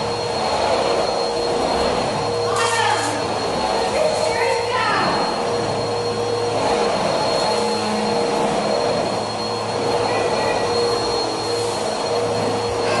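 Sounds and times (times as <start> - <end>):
vacuum cleaner motor whining: 0.0 - 13.0.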